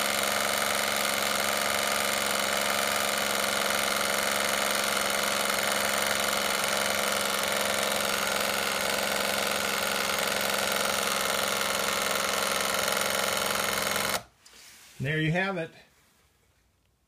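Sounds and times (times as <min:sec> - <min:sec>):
electric pump humming: 0:00.0 - 0:14.4.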